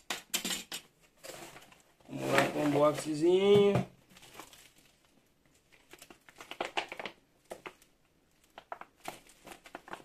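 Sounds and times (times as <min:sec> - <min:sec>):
plastic packaging crinkling: 0:01.2 - 0:10.0.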